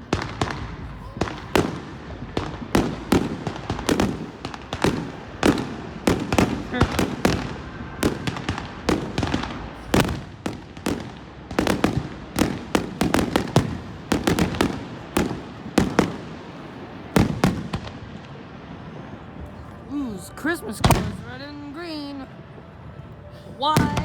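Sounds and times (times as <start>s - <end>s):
fireworks exploding: 0.0s - 22.1s, 23.4s - 24.0s.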